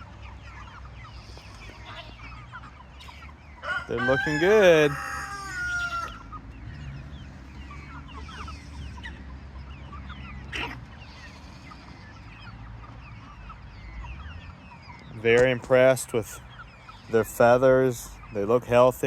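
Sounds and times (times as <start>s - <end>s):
chickens peeping and clucking: 0.0s - 19.0s.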